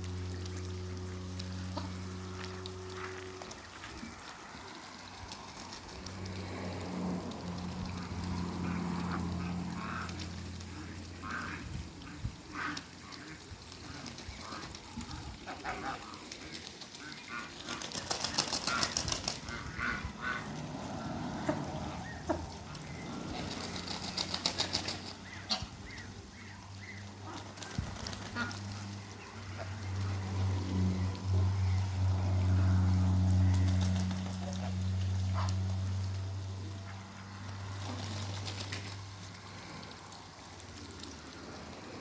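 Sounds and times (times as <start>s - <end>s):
ducks calling: 0.2s - 41.7s
wings flapping: 1.3s - 26.2s, 26.9s - 31.3s, 32.7s - 41.4s.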